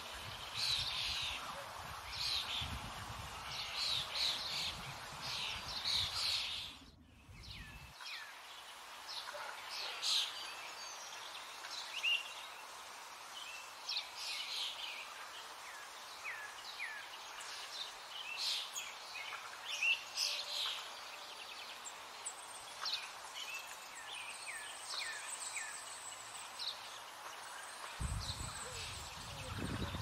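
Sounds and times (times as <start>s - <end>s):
steady outdoor hiss: 0.0s - 30.0s
small birds chirping: 0.1s - 30.0s.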